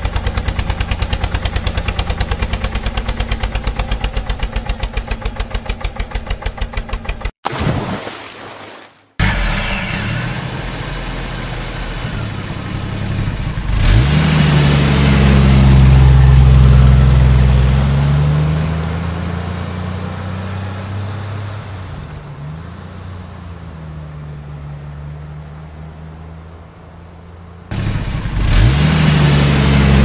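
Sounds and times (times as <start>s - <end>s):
vehicle engine revving: 0.0s - 7.3s, 9.2s - 30.0s.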